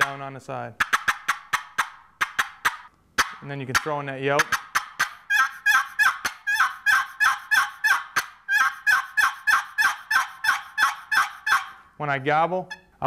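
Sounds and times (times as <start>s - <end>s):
turkey call cutting and yelps: 0.8s - 11.9s.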